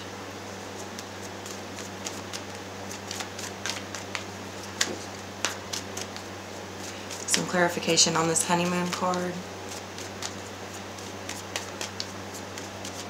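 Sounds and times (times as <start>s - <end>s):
low electrical hum: 0.0s - 13.0s
cards being shuffled: 0.6s - 13.0s.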